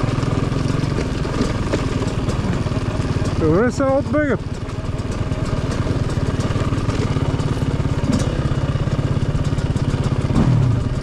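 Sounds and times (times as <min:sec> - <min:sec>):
motorbike engine at low revs: 0:00.0 - 0:11.0.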